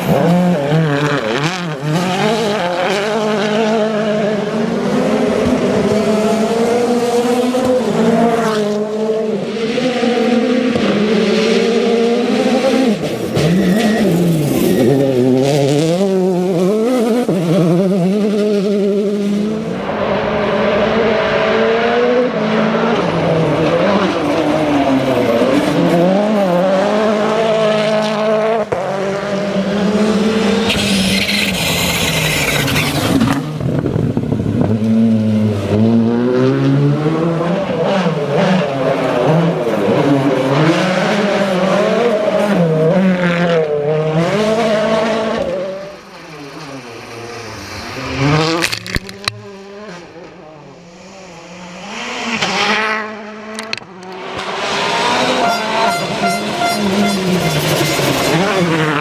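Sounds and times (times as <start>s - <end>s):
car approaching: 0.0s - 59.0s
rally car engine revving: 0.0s - 59.0s.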